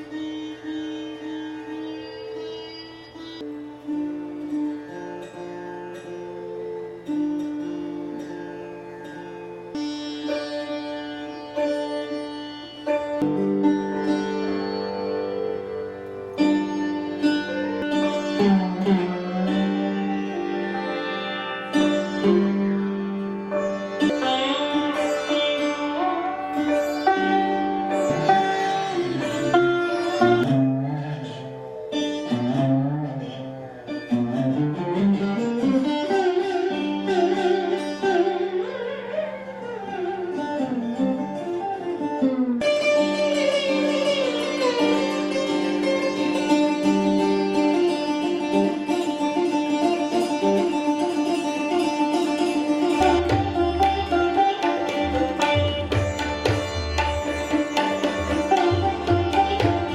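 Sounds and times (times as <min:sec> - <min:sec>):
plucked string instrument melody: 0:00.0 - 0:59.9.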